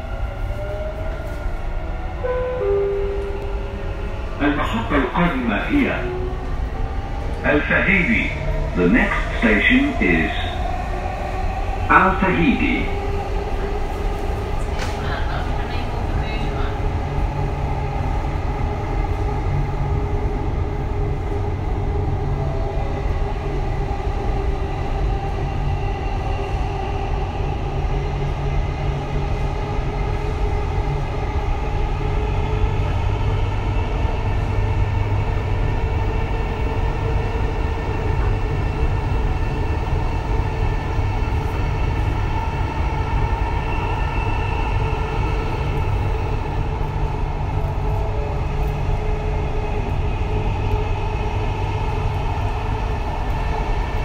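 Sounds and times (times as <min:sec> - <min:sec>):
train wheels rumbling on rails: 0:00.0 - 0:54.0
train whine: 0:00.0 - 0:54.0.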